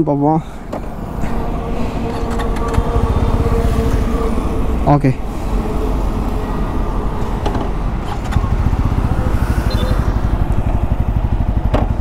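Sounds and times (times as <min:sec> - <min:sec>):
motorcycle engine idling: 0:00.2 - 0:12.0.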